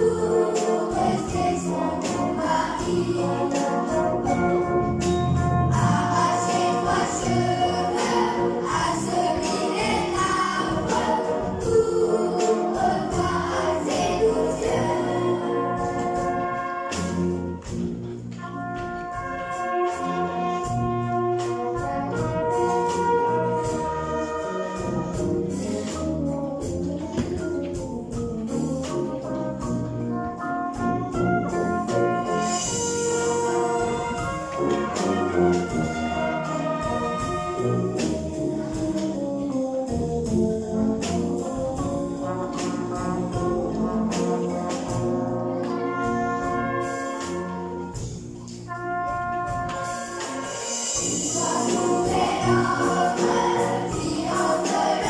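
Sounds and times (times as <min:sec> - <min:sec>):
brass band playing chords: 0:00.0 - 0:55.0
percussion strokes: 0:00.0 - 0:55.0.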